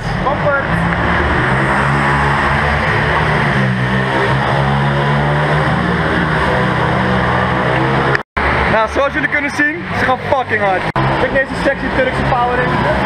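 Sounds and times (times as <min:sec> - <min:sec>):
pitbike engines buzzing: 0:00.0 - 0:13.0.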